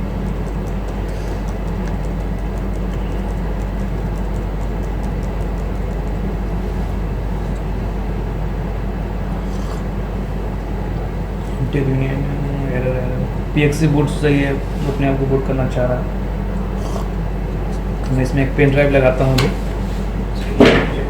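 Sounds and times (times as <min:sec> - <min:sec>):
low background hum and rumble: 0:00.0 - 0:21.0.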